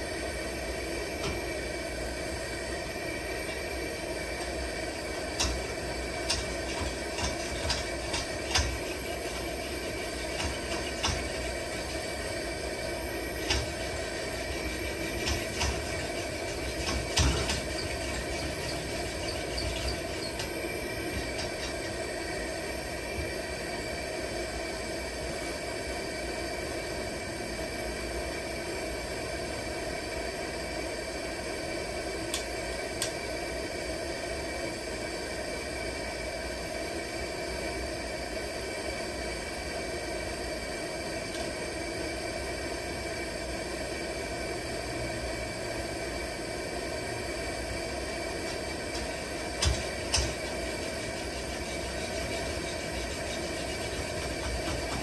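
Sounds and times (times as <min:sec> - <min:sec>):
camp stove burner hissing: 0:00.0 - 0:55.0.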